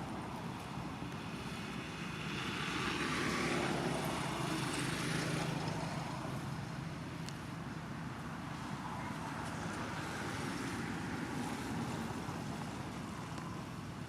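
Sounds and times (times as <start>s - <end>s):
passing engine hum: 0.0s - 14.0s.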